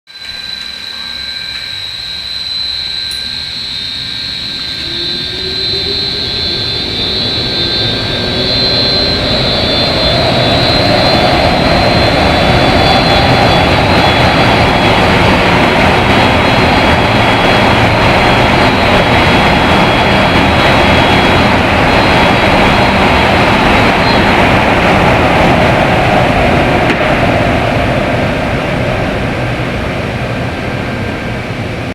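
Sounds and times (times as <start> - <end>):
centrifugal fan spinning up: 3.0 - 31.9
loud rush of air: 3.8 - 31.9.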